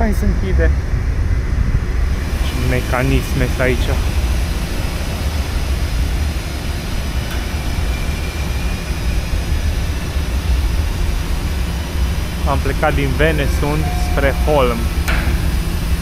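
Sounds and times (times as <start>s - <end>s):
ferry engines rumbling: 0.0s - 16.0s.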